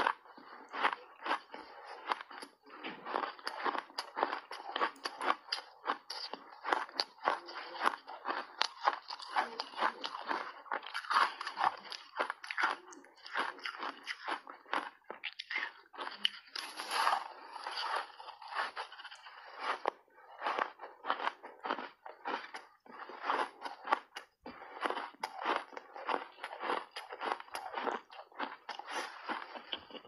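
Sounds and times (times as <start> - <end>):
ice being bitten and chewed: 0.0 - 30.0.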